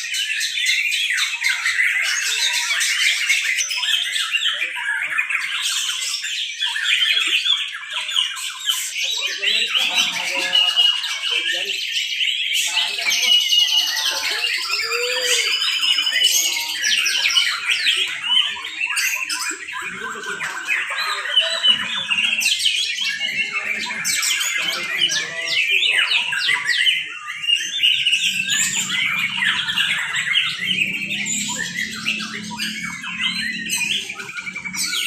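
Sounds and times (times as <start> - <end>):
songbirds singing in chorus: 0.0 - 35.0.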